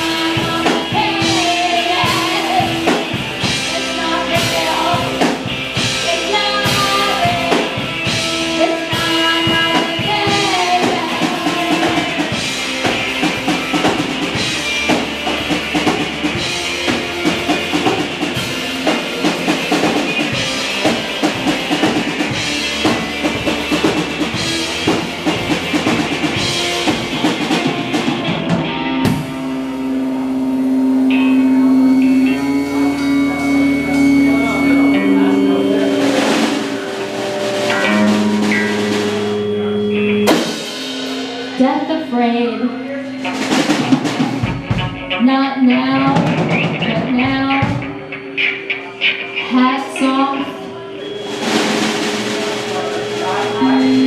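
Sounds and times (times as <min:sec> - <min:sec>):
drum kit beat: 0:00.0 - 0:54.0
instrumental rock band playing live: 0:00.0 - 0:54.0.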